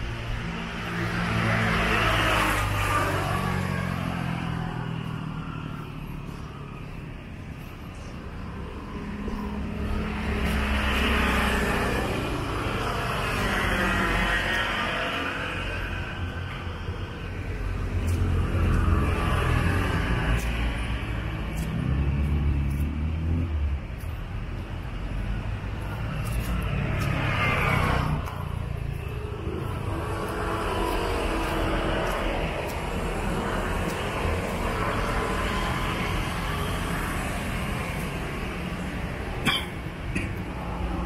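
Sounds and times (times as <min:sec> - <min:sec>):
motor vehicles passing: 0:00.0 - 0:41.0.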